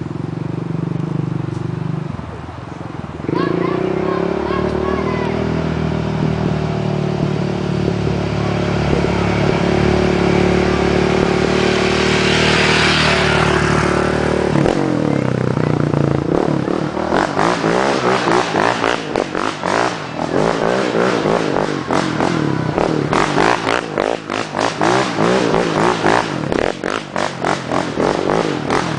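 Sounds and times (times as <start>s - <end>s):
quad engine revving: 3.3s - 28.9s.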